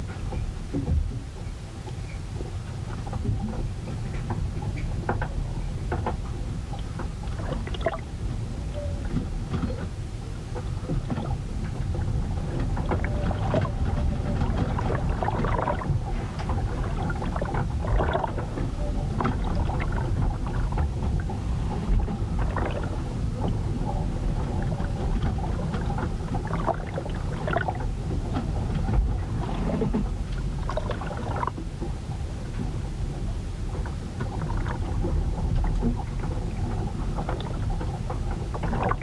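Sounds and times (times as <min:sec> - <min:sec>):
wind and sea rumbling: 0:00.0 - 0:39.0
wooden ship creaking: 0:00.0 - 0:39.0.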